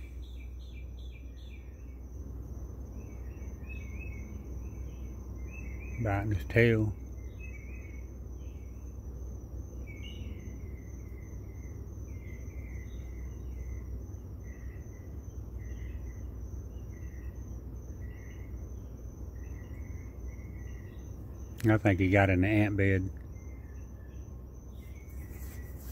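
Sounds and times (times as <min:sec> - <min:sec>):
insect chirping: 0:00.0 - 0:25.9
insects high-pitched trill: 0:00.0 - 0:25.9.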